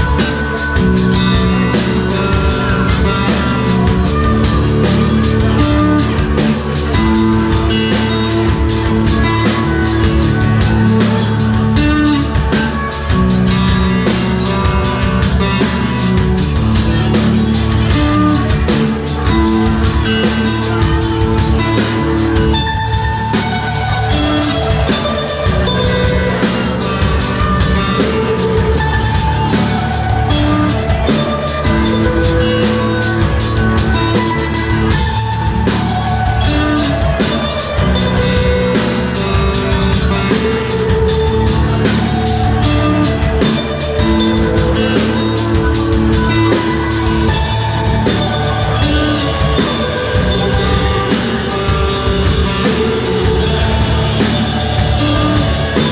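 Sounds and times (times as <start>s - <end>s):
drum kit beat: 0.0s - 55.9s
guitars: 0.0s - 55.9s.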